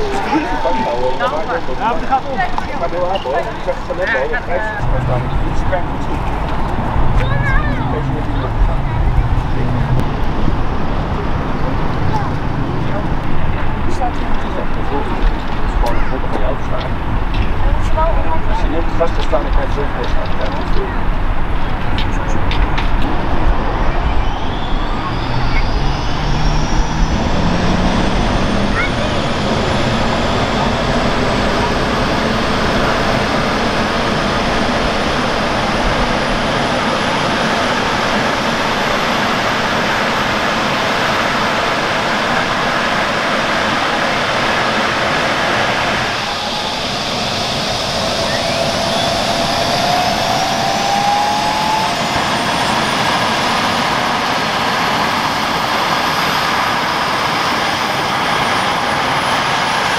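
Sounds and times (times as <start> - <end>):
helicopter engines and rotor: 0.0 - 59.9
high turbine whine: 0.0 - 59.9.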